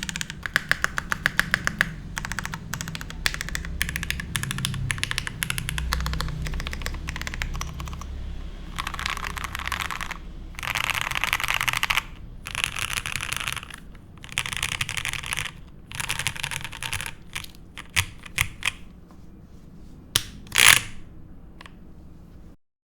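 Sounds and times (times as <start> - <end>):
mechanical keyboard typing: 0.0 - 19.0, 20.2 - 21.8.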